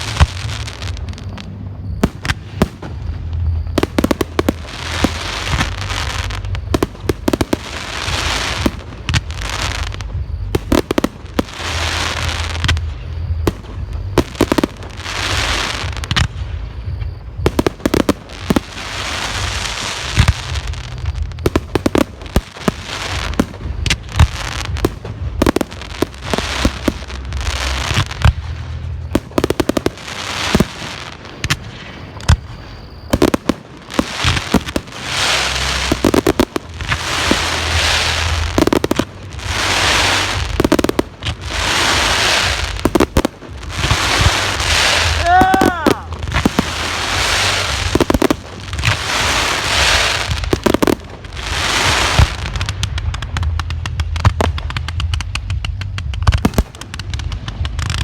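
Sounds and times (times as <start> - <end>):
fireworks bursting with sharp bangs: 0.0 - 58.0
fireworks hiss: 0.0 - 58.0.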